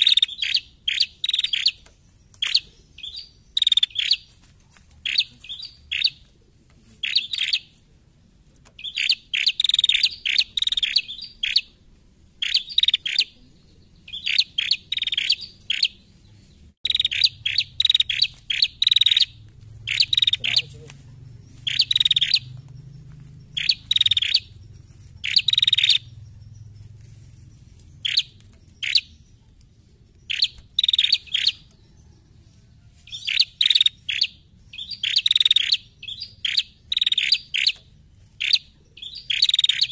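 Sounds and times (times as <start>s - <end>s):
songbird high chirping: 0.0s - 39.9s.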